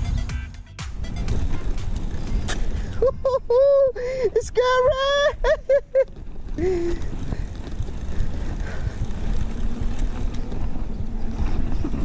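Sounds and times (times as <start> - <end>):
bike tyres rolling on concrete: 1.0 - 12.0
wind buffeting microphone: 1.2 - 12.0.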